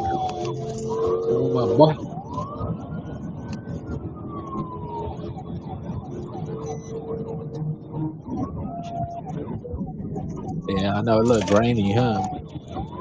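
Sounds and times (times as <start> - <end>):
police siren wailing: 0.0 - 13.0
road and engine noise: 0.0 - 13.0.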